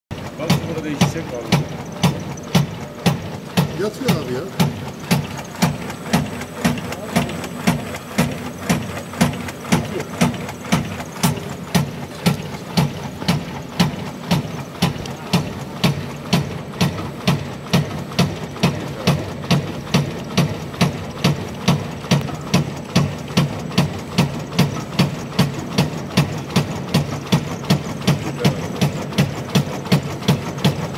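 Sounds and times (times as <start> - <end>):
low machine hum: 0.1 - 30.9
sharp machine clacks: 0.1 - 30.9.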